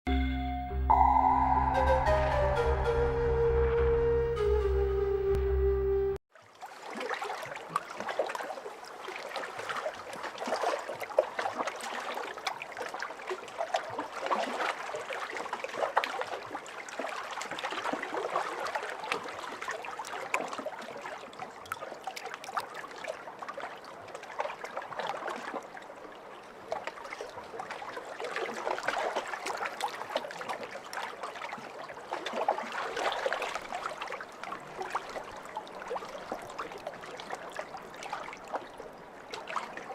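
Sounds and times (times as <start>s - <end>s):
pond water splashing and dripping: 6.3s - 39.9s.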